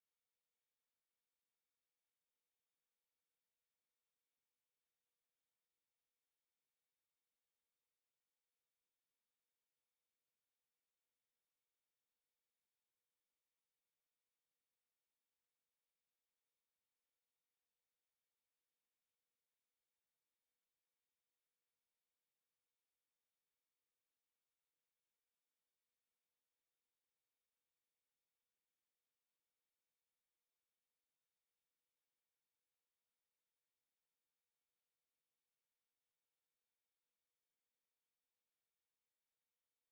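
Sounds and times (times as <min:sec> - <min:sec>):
high-pitched sine test tone: 0:00.0 - 0:39.9.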